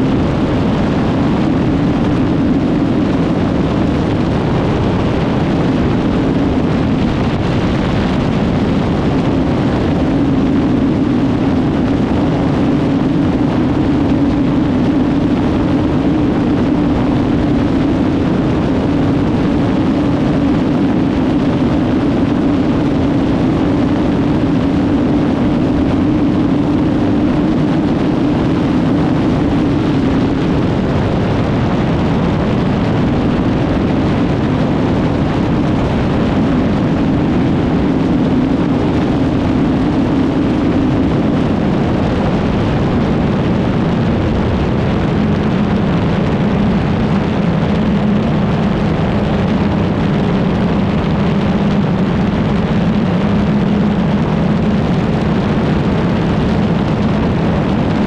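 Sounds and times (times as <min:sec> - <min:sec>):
motorcycle engine running hard: 0:00.0 - 0:58.0
wind rush: 0:00.0 - 0:58.0.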